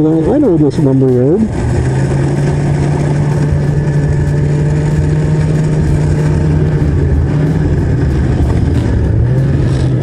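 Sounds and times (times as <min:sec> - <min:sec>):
snowmobile engine running: 0:00.0 - 0:10.0
wind and track rush: 0:00.0 - 0:10.0.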